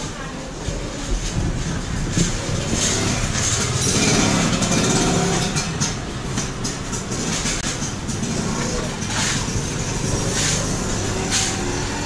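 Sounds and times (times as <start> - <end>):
busy street noise: 0.0 - 12.0
vehicle engine rumbling: 0.0 - 12.0.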